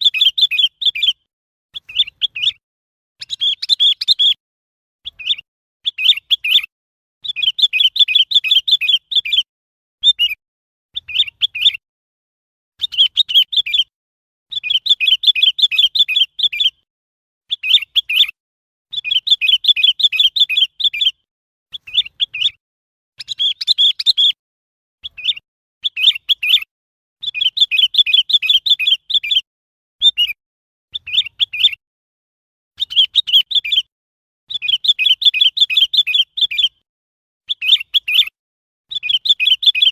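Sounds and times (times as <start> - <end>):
bird chirping: 0.0 - 2.6, 3.2 - 4.4, 5.0 - 11.8, 12.8 - 13.9, 14.5 - 16.8, 17.5 - 22.6, 23.2 - 24.4, 25.0 - 31.8, 32.8 - 33.9, 34.5 - 36.8, 37.5 - 39.9.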